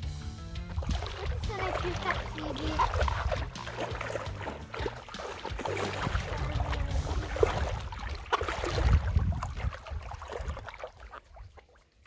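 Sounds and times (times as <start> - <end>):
river water splashing: 0.7 - 12.0.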